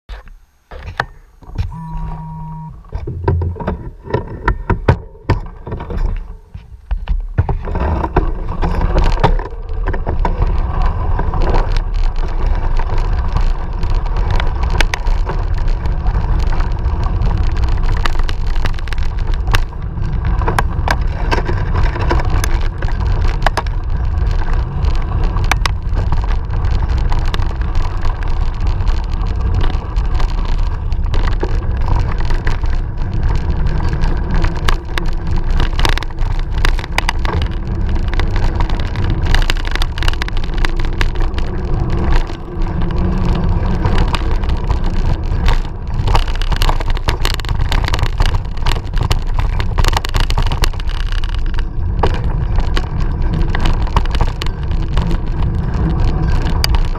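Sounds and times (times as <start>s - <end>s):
bike rattling and clicking: 0.1s - 56.9s
tyres crunching on gravel: 0.1s - 56.9s
wind rumble on microphone: 0.1s - 56.9s.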